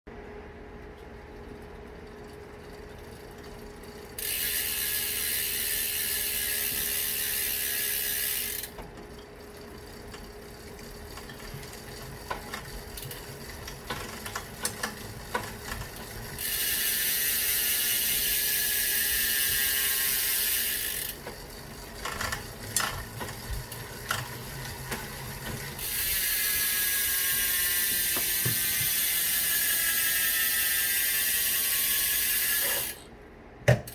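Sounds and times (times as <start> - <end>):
bicycle freewheel ratcheting: 1.3 - 33.1
single freewheel clicks: 1.6 - 33.0.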